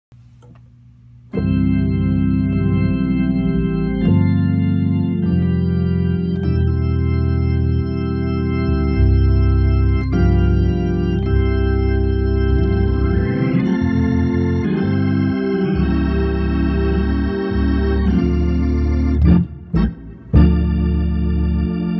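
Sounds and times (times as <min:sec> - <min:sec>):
deep bass: 0:00.9 - 0:21.9
organ playing gospel chords: 0:01.0 - 0:21.9.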